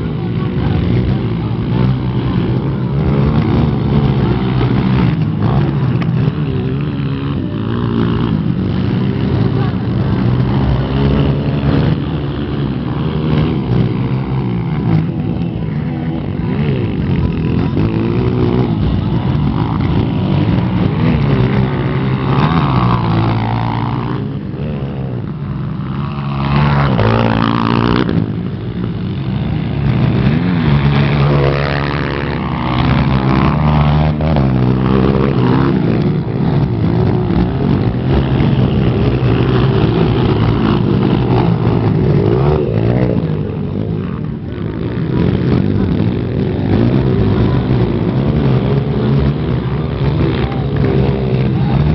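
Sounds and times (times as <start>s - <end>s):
motocross engines revving: 0.0s - 51.9s.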